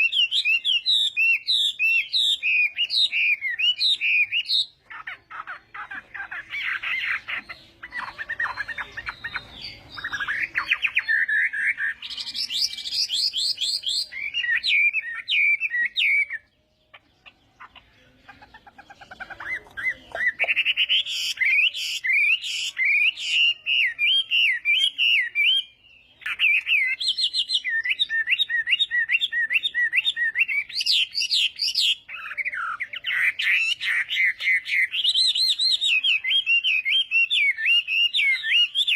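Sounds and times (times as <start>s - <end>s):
bird whistled song: 0.0s - 38.9s.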